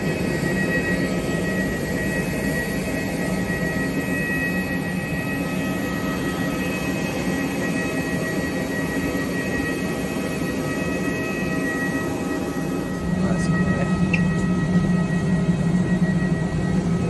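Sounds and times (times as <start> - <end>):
high-pitched whine: 0.0 - 17.0
jet airliner rumbling hum: 0.0 - 17.0.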